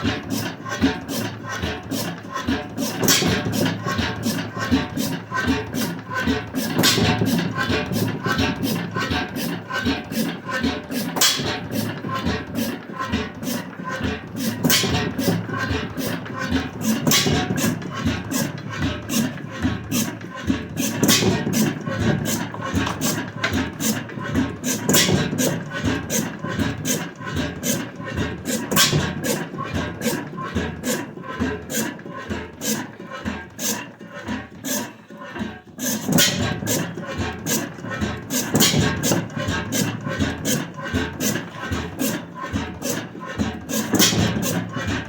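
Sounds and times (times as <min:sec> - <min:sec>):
gas engine chuffing and clacking: 0:00.0 - 0:45.0.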